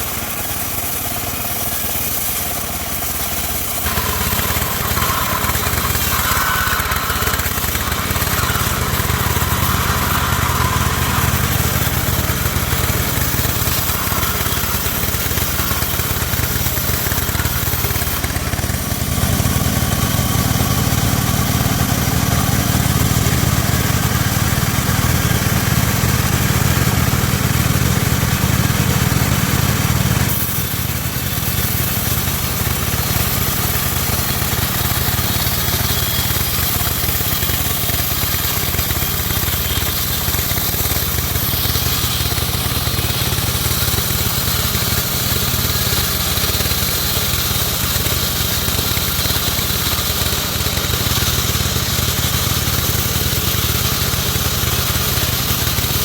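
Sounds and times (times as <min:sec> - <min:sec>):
band sawmill sawing wood: 0:00.0 - 0:56.0.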